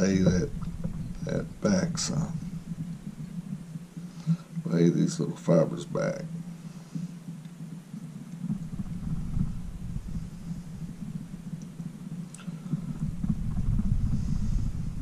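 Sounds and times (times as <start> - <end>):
handling noise rumbling and bumping: 0.0 - 15.0.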